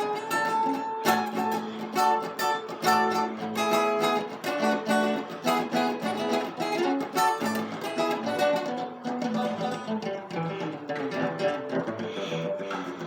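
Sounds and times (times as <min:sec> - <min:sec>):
guitar picked notes: 0:00.0 - 0:13.0.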